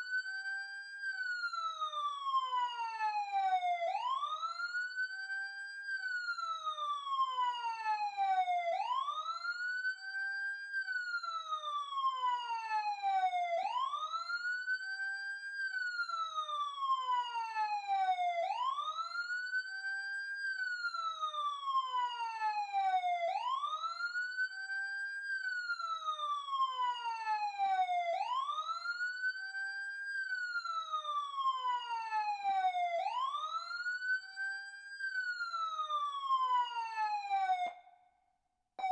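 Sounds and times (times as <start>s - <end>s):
emergency siren wailing: 0.0s - 37.9s.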